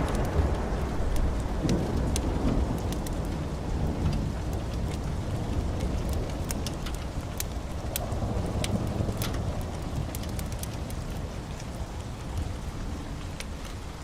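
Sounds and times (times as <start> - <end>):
heavy rain: 0.0 - 14.0
low rolling thunder: 0.0 - 14.0
wood fire crackling and popping: 0.0 - 14.0.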